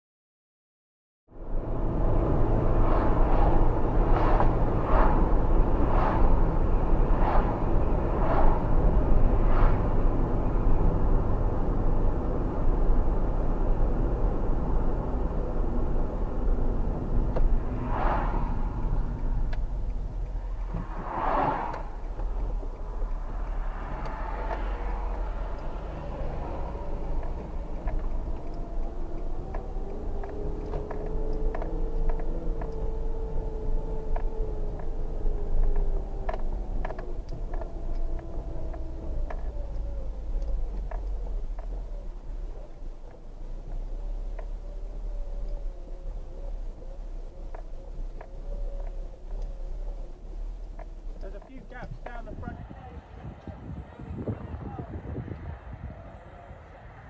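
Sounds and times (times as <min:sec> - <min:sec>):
car engines running: 0:01.3 - 0:57.0
steady low rumble: 0:01.3 - 0:57.0.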